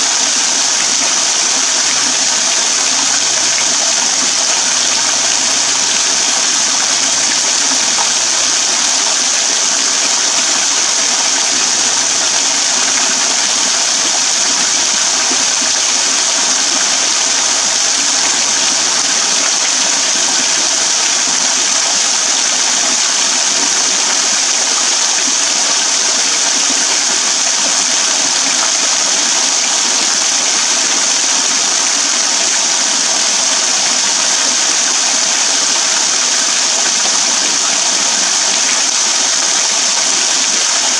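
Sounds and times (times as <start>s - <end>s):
waterfall splashing into pool: 0.0s - 40.9s.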